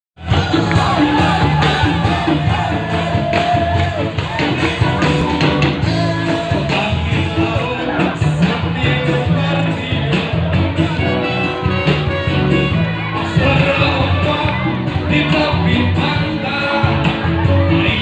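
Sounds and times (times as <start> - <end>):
bass guitar: 0.2 - 18.0
person singing: 0.2 - 18.0
steady drum beat: 0.2 - 18.0.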